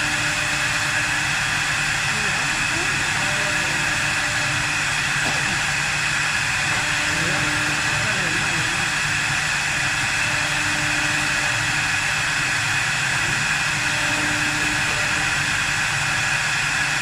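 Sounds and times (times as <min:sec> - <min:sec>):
wood lathe machine running: 0:00.0 - 0:17.0.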